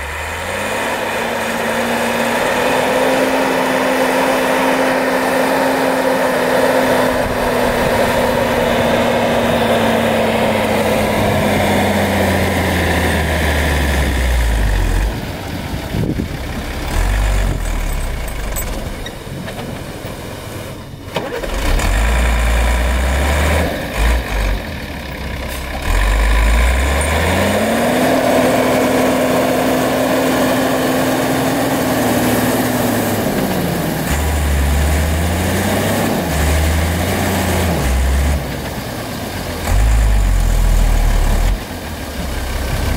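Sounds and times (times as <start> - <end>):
diesel truck engine under load: 0.0 - 42.9.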